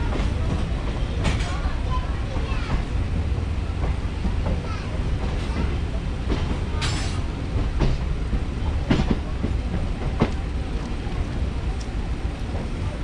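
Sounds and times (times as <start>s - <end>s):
wheels clacking over rail joints: 0.0s - 12.9s
electric train rumbling: 0.0s - 13.0s.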